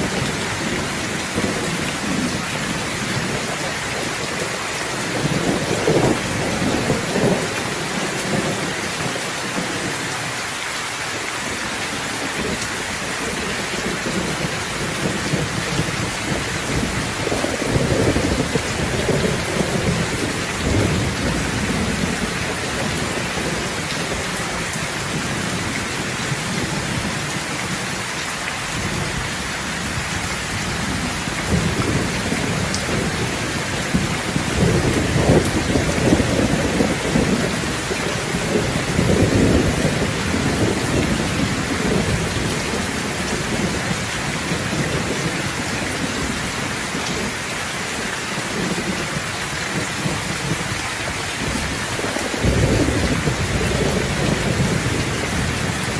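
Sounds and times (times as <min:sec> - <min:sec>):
thunder rumbling: 0:00.0 - 0:10.3, 0:11.5 - 0:55.9
heavy rain hissing: 0:00.0 - 0:55.9.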